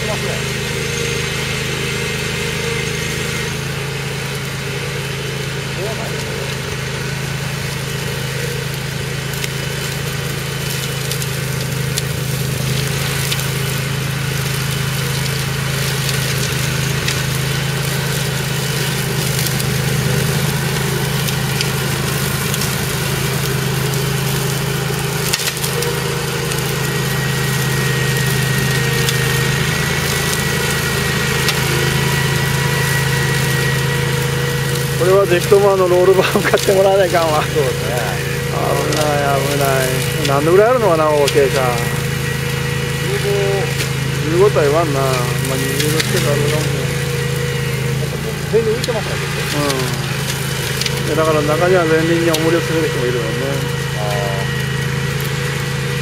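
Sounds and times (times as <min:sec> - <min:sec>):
mower engine running: 0:00.0 - 0:56.0
thin whine: 0:00.0 - 0:56.0.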